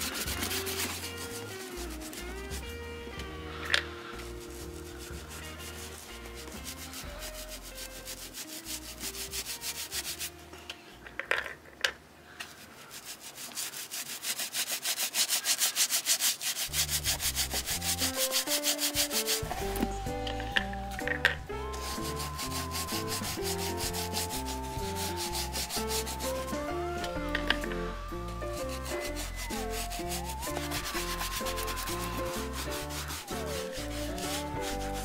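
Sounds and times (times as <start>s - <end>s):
brush scrubbing leather boot: 0.0s - 2.8s, 4.2s - 10.4s, 12.6s - 20.1s, 21.7s - 27.2s, 28.3s - 35.0s.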